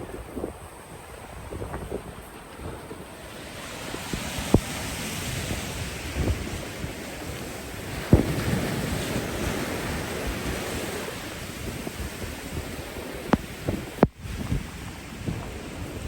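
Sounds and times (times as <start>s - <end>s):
ocean surf rushing: 0.0s - 16.0s
rain: 0.0s - 16.0s
wind buffeting microphone: 0.0s - 16.0s.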